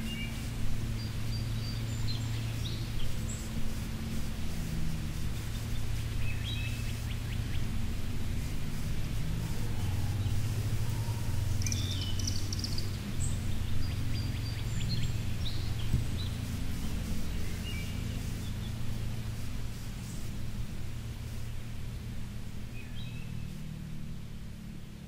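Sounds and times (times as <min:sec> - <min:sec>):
birds chirping: 0:00.0 - 0:23.8
steady low hum: 0:00.0 - 0:25.0.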